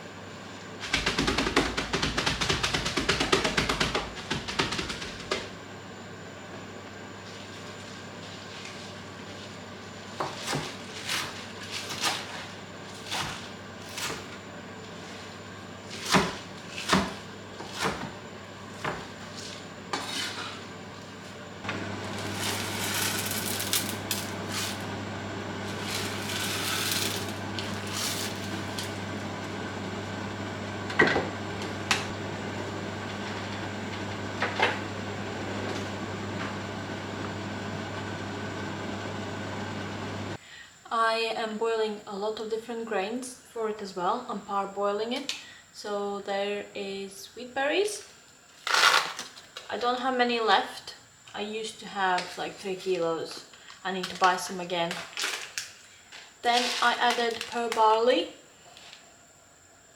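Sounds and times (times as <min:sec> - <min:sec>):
steady hum with hiss: 0:00.0 - 0:33.7, 0:40.2 - 0:59.9.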